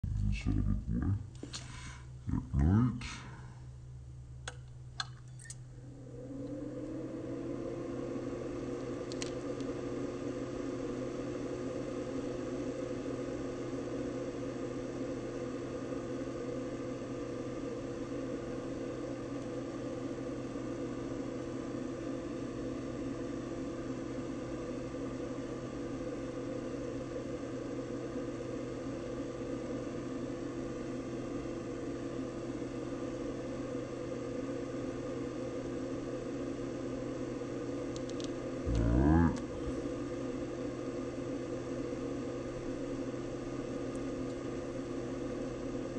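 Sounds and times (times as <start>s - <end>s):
lamp cooling fan hum: 0.0s - 45.9s.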